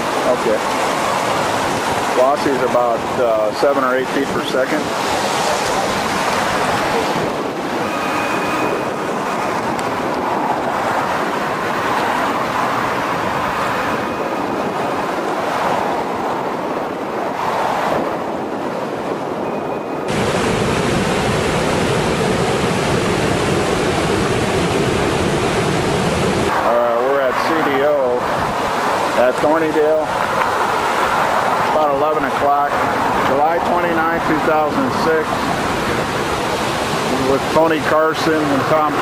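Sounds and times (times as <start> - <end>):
floodwater rushing: 0.0 - 39.0
wind on microphone: 0.0 - 39.0.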